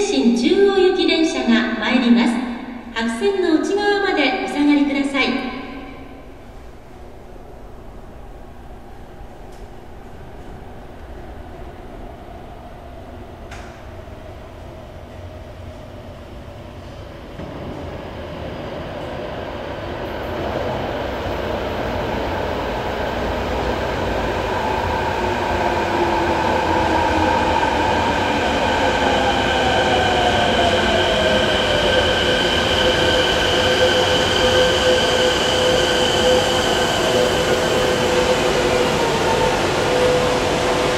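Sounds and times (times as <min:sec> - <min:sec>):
train pulling into station: 0:00.0 - 0:40.9
train whine sliding down: 0:06.0 - 0:40.9.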